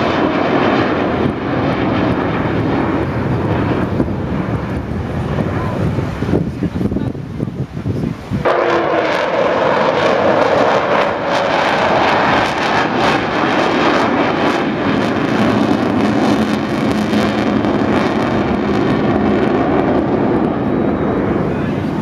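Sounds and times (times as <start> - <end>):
jet plane flying overhead: 0.0 - 22.0.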